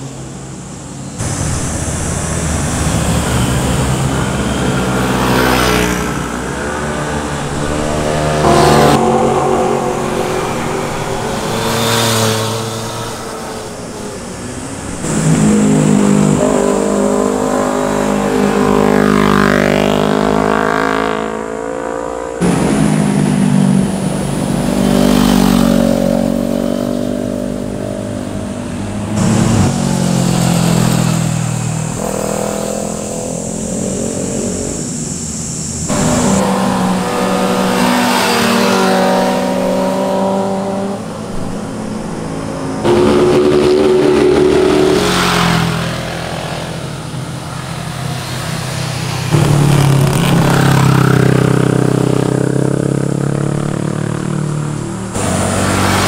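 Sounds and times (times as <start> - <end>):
motorcycles passing: 0.0 - 56.0.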